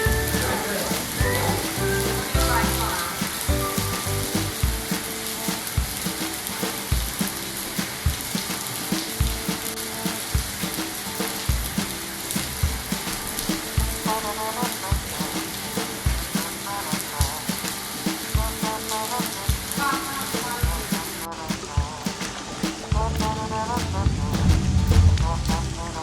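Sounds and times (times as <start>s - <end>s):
heavy rain hissing: 0.0s - 26.0s
music with slow kick drum: 0.0s - 26.0s.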